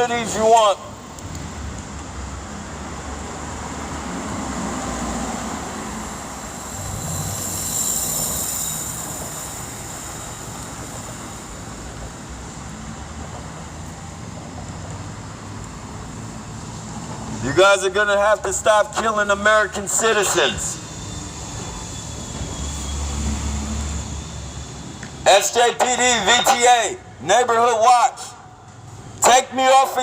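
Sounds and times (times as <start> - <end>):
passing road traffic: 0.0 - 30.0.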